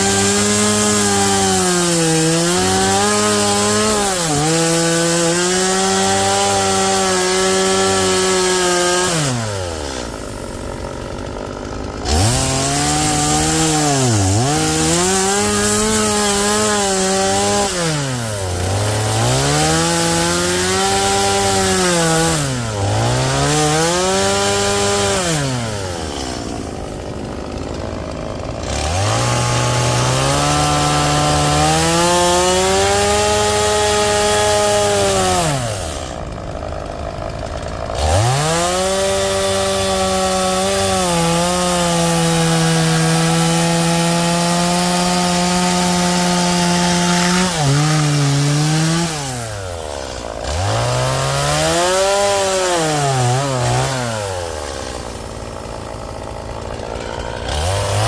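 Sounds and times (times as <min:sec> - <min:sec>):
chainsaw cutting into log: 0:00.0 - 0:58.0.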